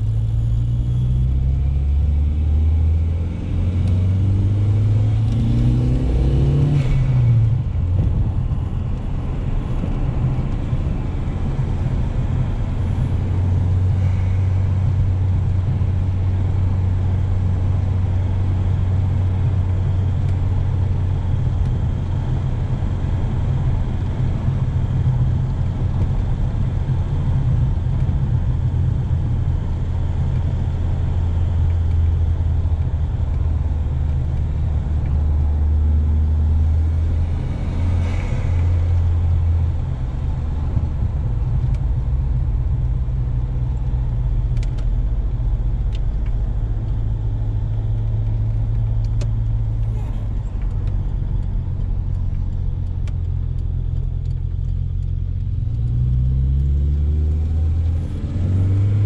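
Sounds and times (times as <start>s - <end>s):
car engine revving and droning: 0.0s - 59.0s
tyre and road noise: 0.0s - 59.0s.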